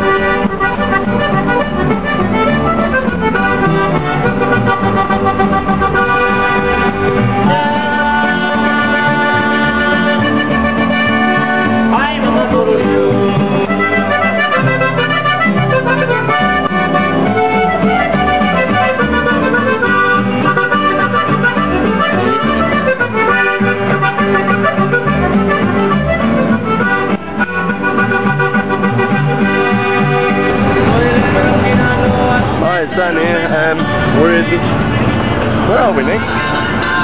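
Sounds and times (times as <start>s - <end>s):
acoustic guitar accompaniment: 0.0s - 37.0s
piano accordion melody: 0.0s - 37.0s.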